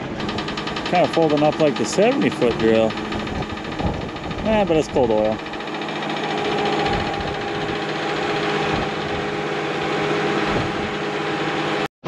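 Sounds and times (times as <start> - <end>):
hydraulic whine: 0.0 - 11.9
tractor engine running: 0.0 - 11.9.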